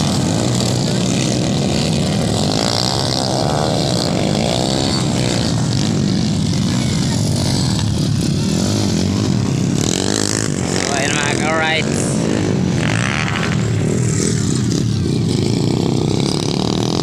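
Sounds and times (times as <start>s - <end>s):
dirt bikes revving past: 0.0s - 17.0s.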